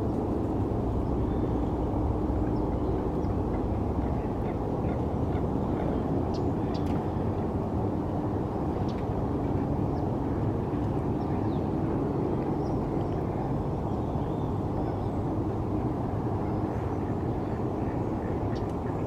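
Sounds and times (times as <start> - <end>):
distant city rumble: 0.0 - 19.0.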